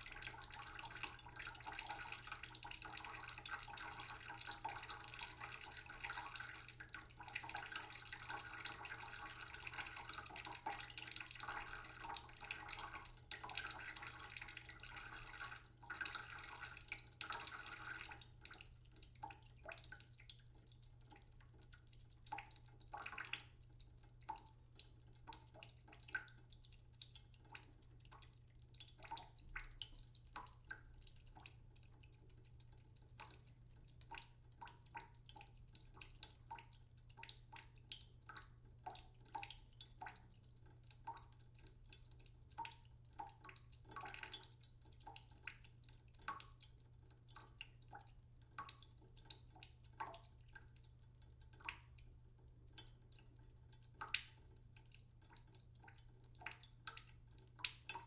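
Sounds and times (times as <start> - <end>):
tap water running into a pot: 0.0 - 58.0.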